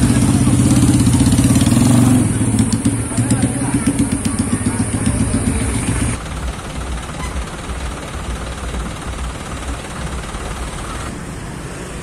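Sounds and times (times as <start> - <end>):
pulsing sound with heavy beat: 0.0 - 11.1
low engine rumble: 0.0 - 11.4
crowd and street noise: 0.0 - 12.0.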